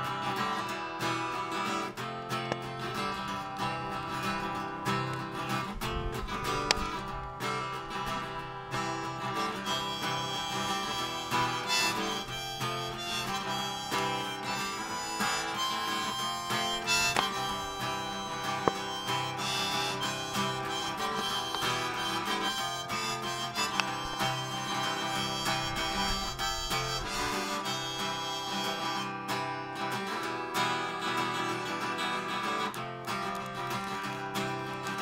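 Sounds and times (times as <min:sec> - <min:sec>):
acoustic guitar: 0:00.0 - 0:35.0
harmonica: 0:00.0 - 0:35.0.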